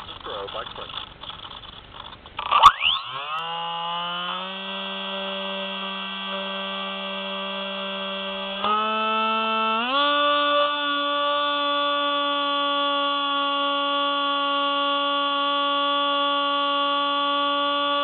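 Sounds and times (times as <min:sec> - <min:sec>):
electric motor and propeller hum: 0:00.0 - 0:18.0.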